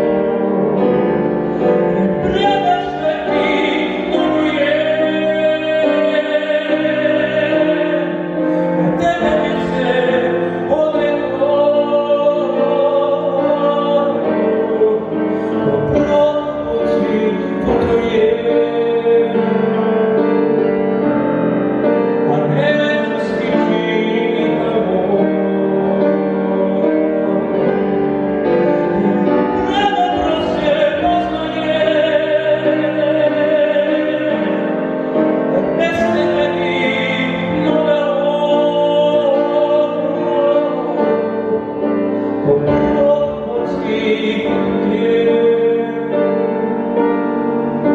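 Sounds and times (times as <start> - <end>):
man singing into a microphone: 0.0 - 47.9
piano accompaniment: 0.0 - 47.9.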